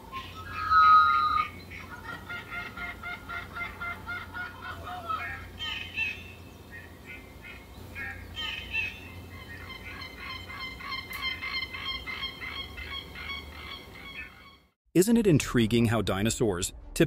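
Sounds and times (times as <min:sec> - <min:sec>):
bird-like animal calls: 0:00.1 - 0:14.7.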